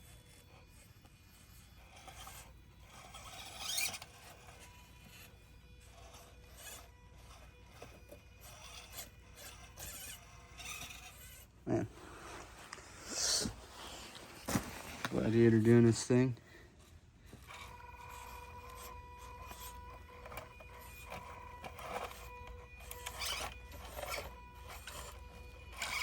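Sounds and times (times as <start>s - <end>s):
toy car scraping over rough ground: 0.0s - 26.0s.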